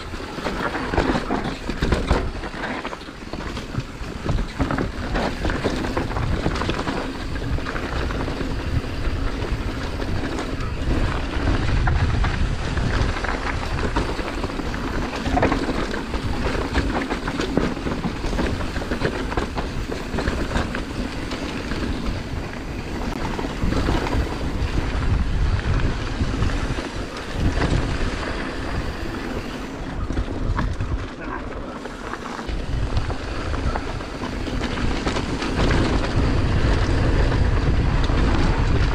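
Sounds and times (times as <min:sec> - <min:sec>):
bike rattling: 0:00.0 - 0:38.9
tyres rumbling over stones: 0:00.0 - 0:38.9
wind buffeting microphone: 0:00.0 - 0:38.9.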